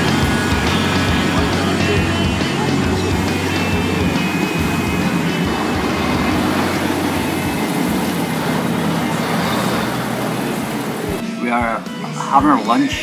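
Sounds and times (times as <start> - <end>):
bus engine humming: 0.0 - 11.2
street traffic: 0.0 - 11.3.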